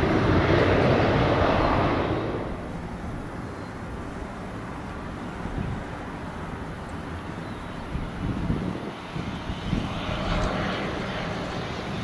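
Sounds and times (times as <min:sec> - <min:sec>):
turboprop airliner engines and propellers: 0:00.0 - 0:12.0.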